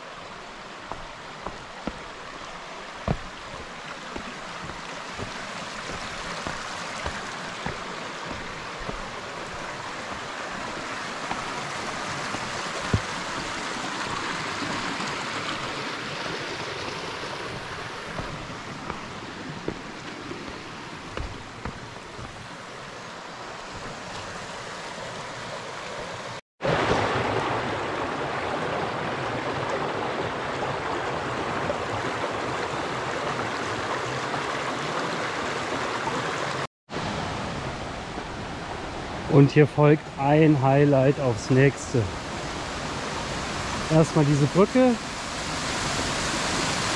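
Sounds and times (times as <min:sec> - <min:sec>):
stream rushing over rocks: 0:00.0 - 0:46.9.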